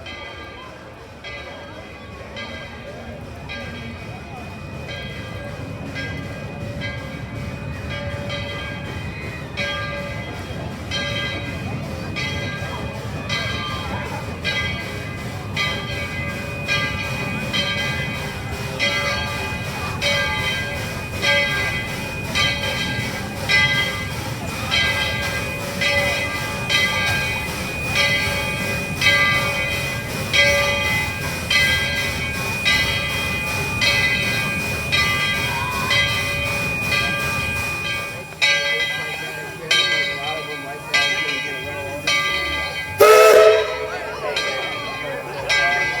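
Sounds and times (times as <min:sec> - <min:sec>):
locomotive bell ringing: 0:00.0 - 0:46.0
low rumble of moving train: 0:00.0 - 0:46.0.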